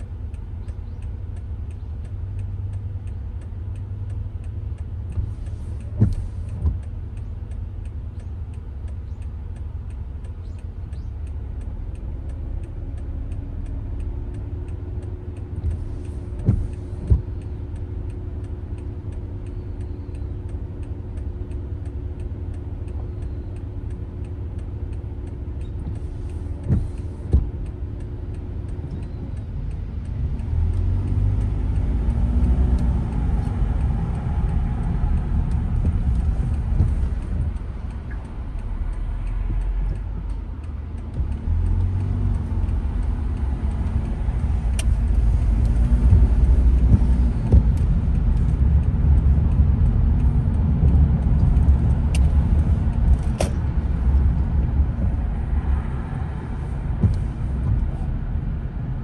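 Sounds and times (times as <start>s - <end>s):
car engine rumble: 0.0s - 59.0s
tyres on wet road: 0.0s - 59.0s.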